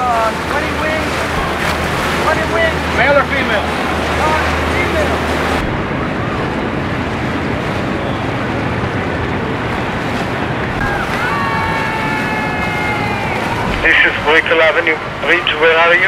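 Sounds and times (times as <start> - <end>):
wind buffeting microphone: 0.0 - 15.5
choppy river water rushing: 0.0 - 16.0.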